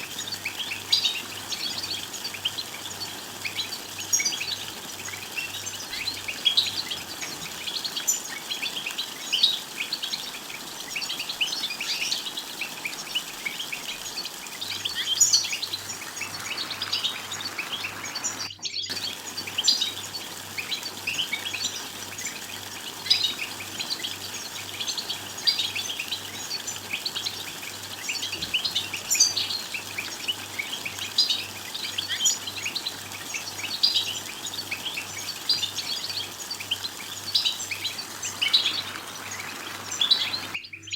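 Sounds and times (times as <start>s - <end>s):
goldfinch twittering: 0.0s - 40.9s.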